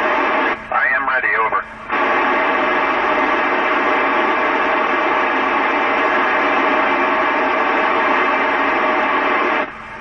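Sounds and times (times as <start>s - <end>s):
faint hum: 0.0s - 10.0s
radio static hiss: 0.0s - 10.0s.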